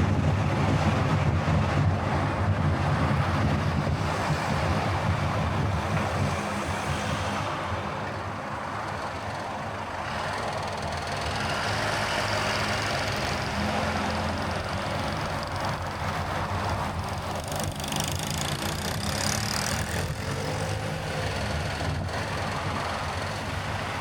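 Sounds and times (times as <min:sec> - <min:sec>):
wind noise: 0:00.0 - 0:10.4, 0:11.3 - 0:24.0.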